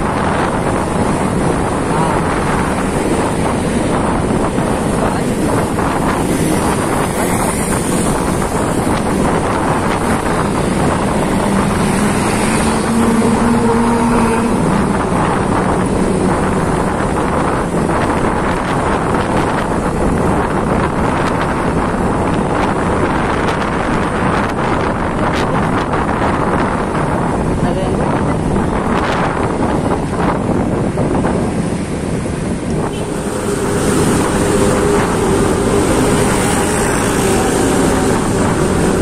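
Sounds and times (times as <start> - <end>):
tyres on road: 0.0 - 39.0
wind rush on microphone: 0.0 - 39.0.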